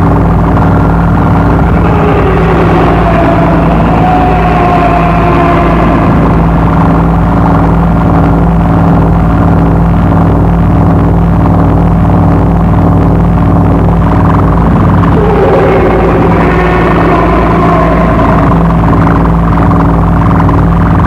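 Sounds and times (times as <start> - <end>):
distorted noise wall: 0.0 - 21.0
low electronic drone: 0.0 - 21.0
warbling tone: 0.0 - 21.0.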